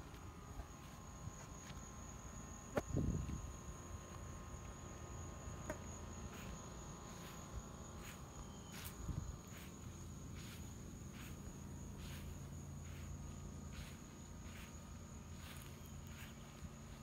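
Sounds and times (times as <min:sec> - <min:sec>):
faint low hum: 0:00.0 - 0:17.0
insect chorus drone: 0:00.0 - 0:17.0.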